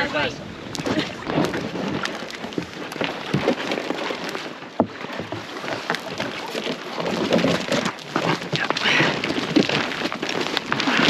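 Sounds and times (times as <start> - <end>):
thin ice crackling under canoe: 0.0 - 11.0.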